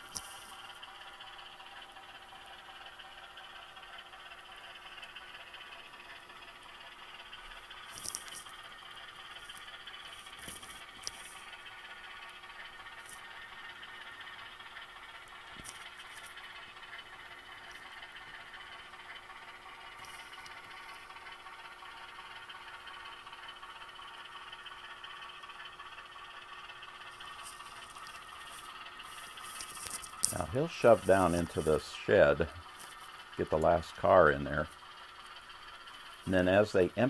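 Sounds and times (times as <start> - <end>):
model train wheels rattling: 0.0 - 37.0.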